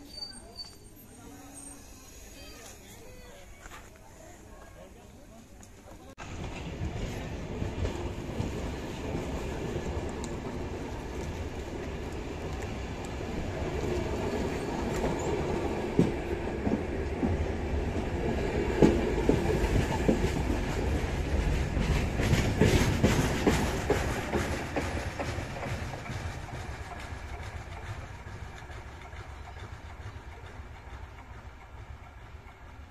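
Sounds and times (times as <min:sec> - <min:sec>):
train wheels rumbling and clicking: 0:05.6 - 0:32.9.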